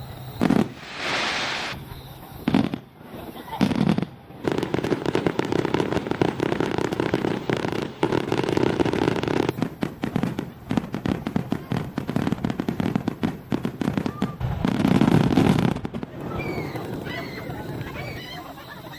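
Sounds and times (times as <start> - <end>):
fireworks crackling and popping: 0.0 - 18.9.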